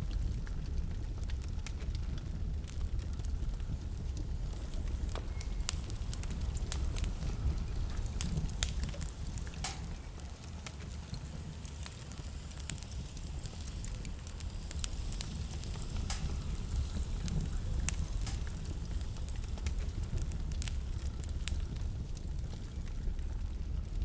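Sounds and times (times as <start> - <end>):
low rumble of flame: 0.0 - 24.0
wood fire crackling and popping: 0.0 - 24.0.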